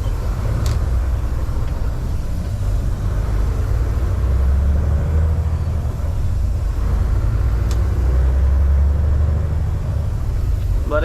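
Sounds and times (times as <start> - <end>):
truck diesel engine and road rumble: 0.0 - 11.0.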